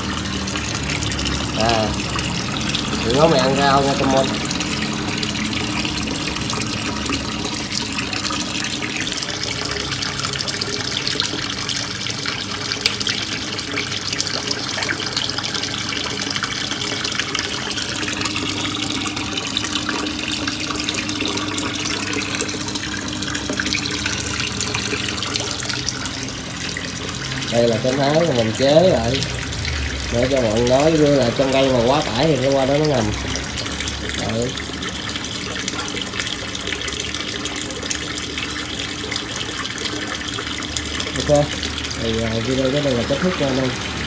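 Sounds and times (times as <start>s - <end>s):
water gushing and splashing: 0.0s - 44.0s.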